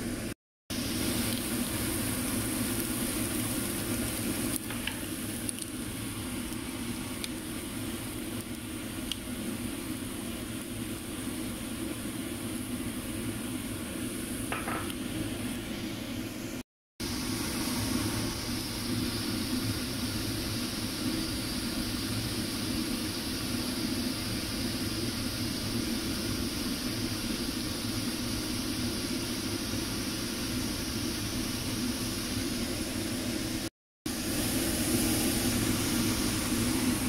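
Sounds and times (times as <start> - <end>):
potato slices frying in oil: 0.0 - 15.8, 17.0 - 37.0.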